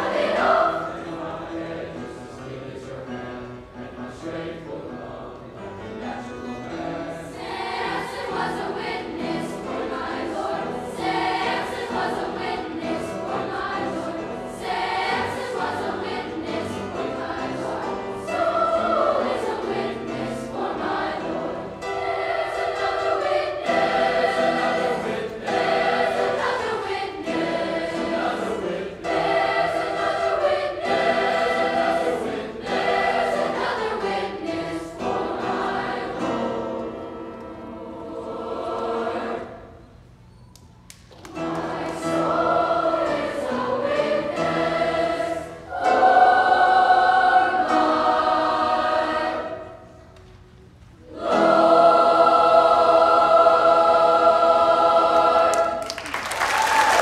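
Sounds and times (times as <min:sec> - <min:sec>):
school choir singing: 0:00.0 - 0:40.0, 0:41.3 - 0:50.1, 0:51.0 - 0:57.0.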